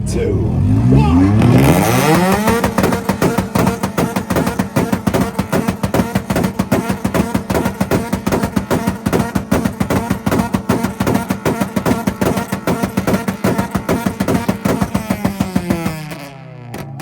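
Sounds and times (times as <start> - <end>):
exhaust bangs on rev limiter: 1.1 - 17.0.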